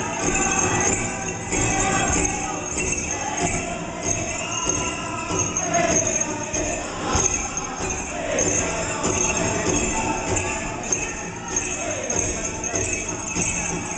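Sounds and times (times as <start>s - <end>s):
dancer's bells jingling: 0.0s - 13.9s
drum group singing and drumming: 0.0s - 13.9s.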